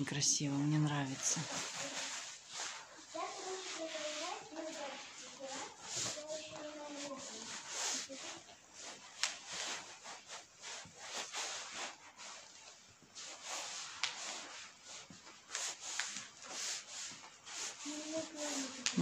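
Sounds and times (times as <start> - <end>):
plastic wrap crinkling and rustling: 0.0 - 19.0.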